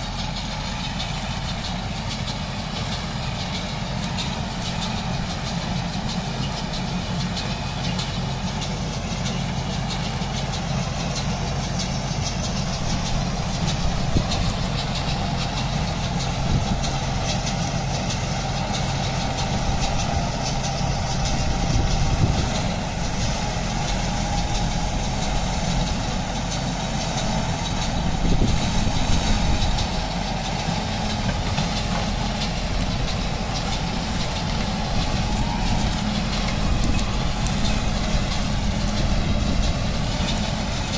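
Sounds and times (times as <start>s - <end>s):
tractor diesel engine running: 0.0s - 40.9s
baler mechanism working: 0.2s - 40.9s.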